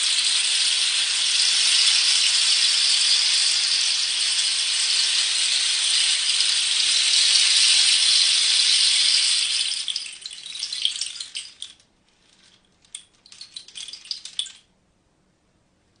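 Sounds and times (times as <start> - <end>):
rain stick pellets rushing: 0.1 - 14.7.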